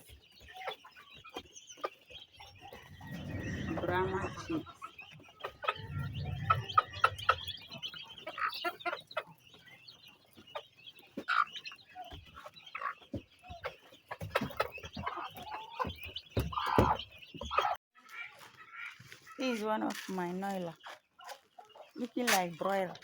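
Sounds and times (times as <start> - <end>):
chickens clucking: 0.0 - 23.0
chicks peeping: 0.0 - 23.0.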